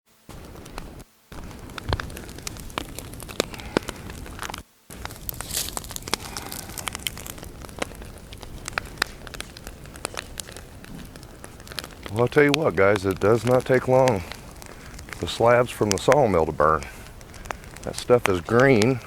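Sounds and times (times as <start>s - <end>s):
steady hiss of fire: 0.2s - 19.0s
wood fire crackling and popping: 0.2s - 19.0s.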